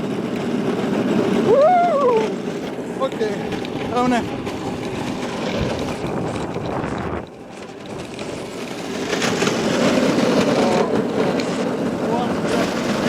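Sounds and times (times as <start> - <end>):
electric go-kart rushing: 0.0 - 13.0.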